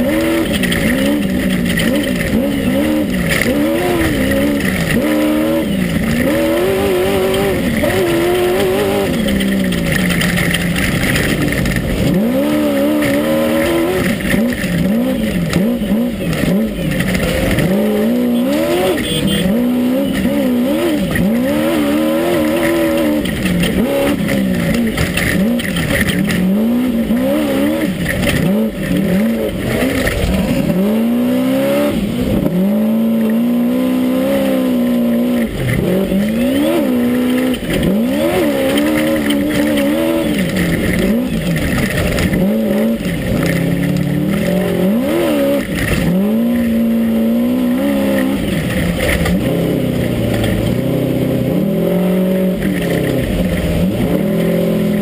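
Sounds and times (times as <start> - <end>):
constant rushing noise: 0.0 - 55.0
race buggy engine revving: 0.0 - 55.0.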